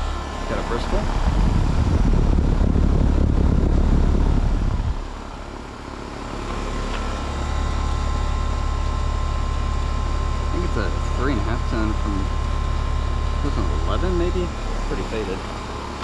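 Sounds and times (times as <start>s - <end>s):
compressor hum: 0.0s - 16.0s
heat pump fan blowing air: 0.0s - 16.0s.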